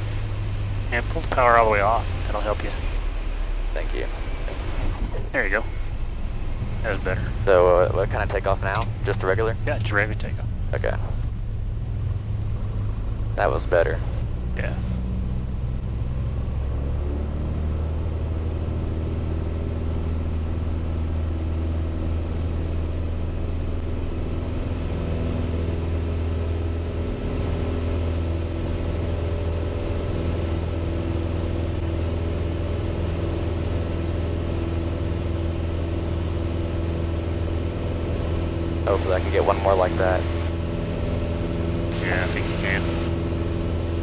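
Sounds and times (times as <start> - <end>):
airplane engine and propeller: 0.0 - 44.0.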